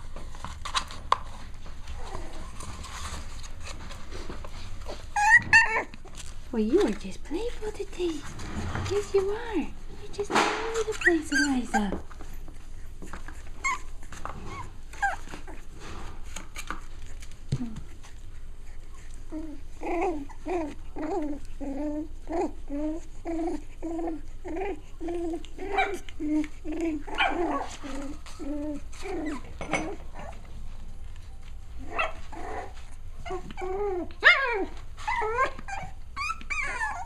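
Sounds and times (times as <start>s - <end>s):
puppies scuffling: 0.0s - 37.0s.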